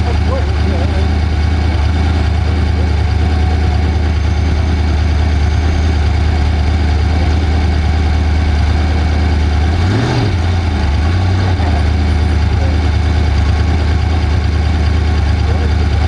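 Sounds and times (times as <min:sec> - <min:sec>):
engine idling: 0:00.0 - 0:16.0
engine revving: 0:00.0 - 0:16.0.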